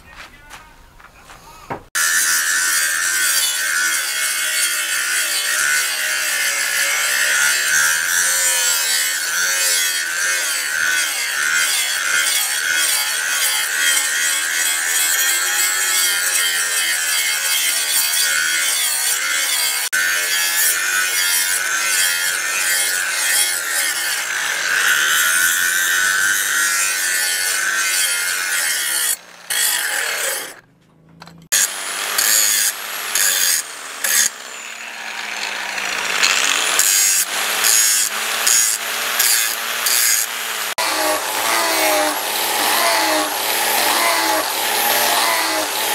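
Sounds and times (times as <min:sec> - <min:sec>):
angle grinder grinding steel: 0:02.0 - 0:45.9.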